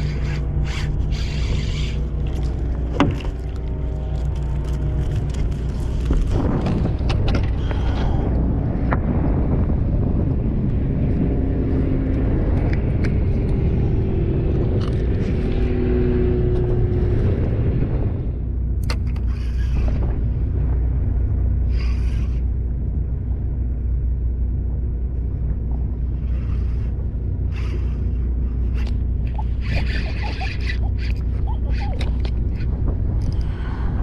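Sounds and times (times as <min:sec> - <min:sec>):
boat engine rumbling: 0:00.0 - 0:34.0.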